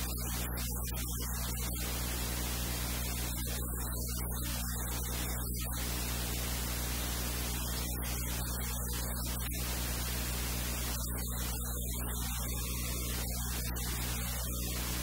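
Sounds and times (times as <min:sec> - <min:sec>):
electrical mains hum: 0:00.0 - 0:15.0
static hiss: 0:00.0 - 0:15.0.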